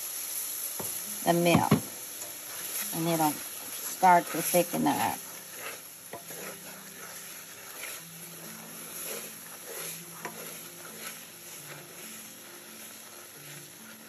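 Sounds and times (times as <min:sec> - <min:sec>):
sauce sizzling: 0:00.0 - 0:14.0
utensil scraping pan: 0:01.5 - 0:14.0.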